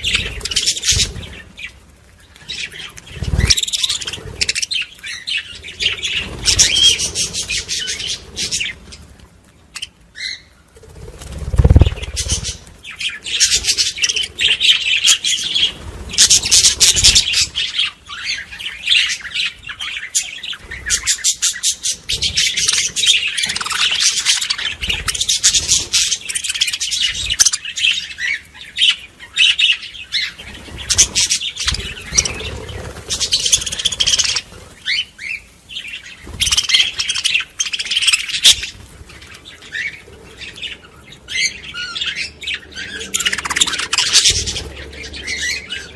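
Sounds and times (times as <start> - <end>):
budgerigars chattering and warbling: 0.0 - 1.8, 2.4 - 9.0, 9.8 - 45.9.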